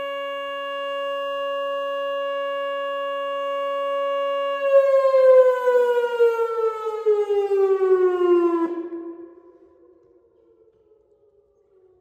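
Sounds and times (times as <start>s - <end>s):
electronic warning siren: 0.0s - 10.2s.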